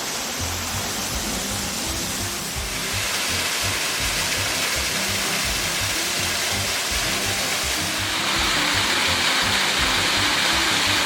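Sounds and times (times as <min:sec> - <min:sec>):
background music with bass: 0:00.0 - 0:11.0
waterfall rushing: 0:00.0 - 0:11.0.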